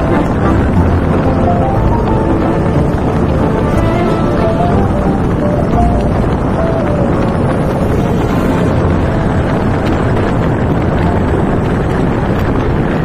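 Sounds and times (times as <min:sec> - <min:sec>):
road noise: 0:00.0 - 0:13.0
scooter running: 0:00.0 - 0:13.0
wind rush on microphone: 0:00.0 - 0:13.0.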